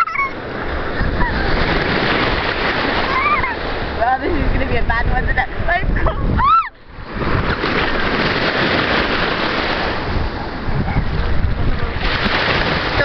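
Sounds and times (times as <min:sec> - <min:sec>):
waves washing over pebbles: 0:00.0 - 0:04.5, 0:07.0 - 0:13.0
wind on microphone: 0:00.0 - 0:13.0.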